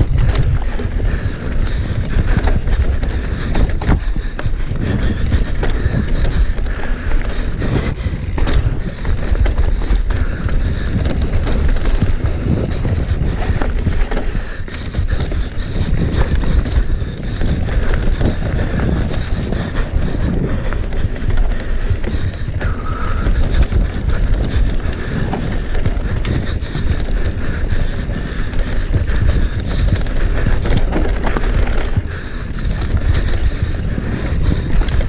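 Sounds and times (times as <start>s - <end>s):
tyres rumbling over dirt: 0.0s - 35.0s
wind rushing over microphone: 0.0s - 35.0s.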